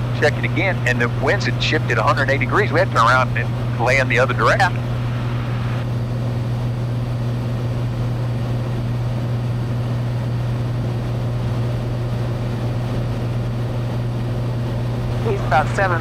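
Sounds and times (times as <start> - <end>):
airplane engine droning in cabin: 0.0 - 16.0.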